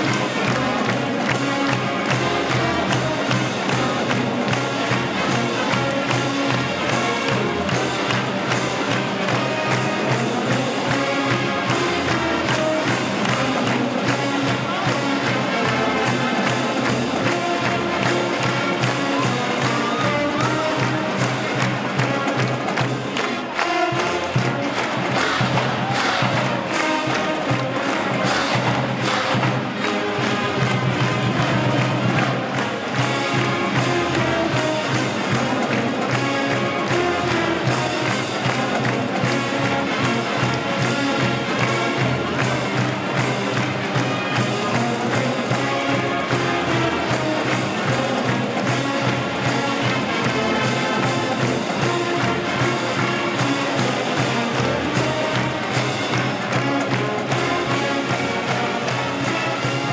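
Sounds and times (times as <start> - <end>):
upbeat music with fast beat: 0.0 - 59.9.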